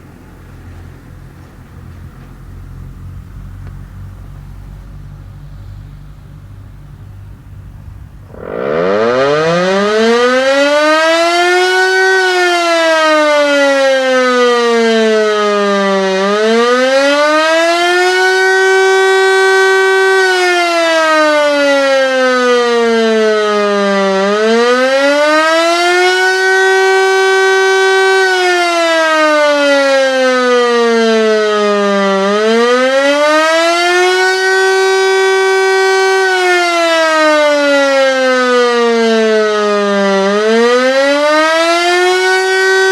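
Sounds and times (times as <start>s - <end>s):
rotary siren wailing: 8.2s - 42.9s.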